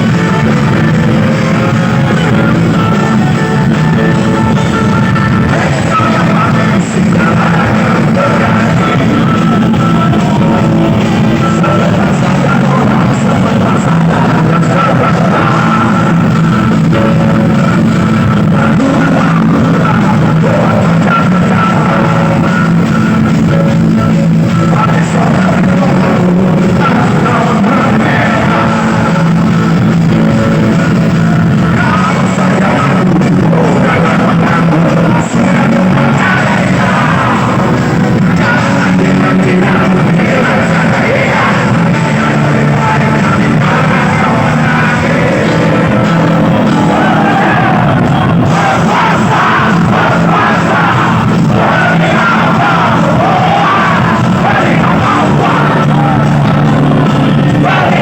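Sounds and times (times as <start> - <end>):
crowd shouting and singing along: 0.0 - 58.0
live rock band with singing: 0.0 - 58.0.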